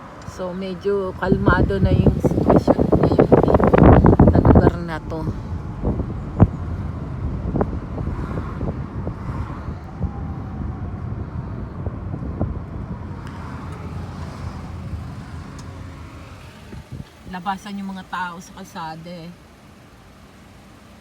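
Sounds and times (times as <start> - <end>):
road and engine rumble in car: 0.0 - 21.0.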